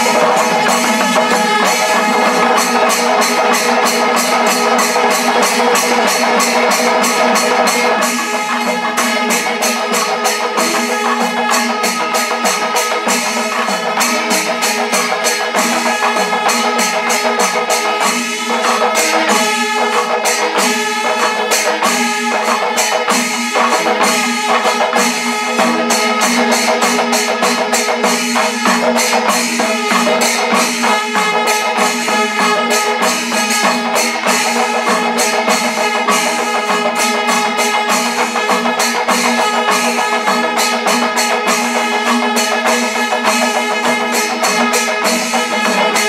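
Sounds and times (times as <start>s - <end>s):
cymbals ringing: 0.0s - 46.0s
fast drum strokes: 0.0s - 46.0s.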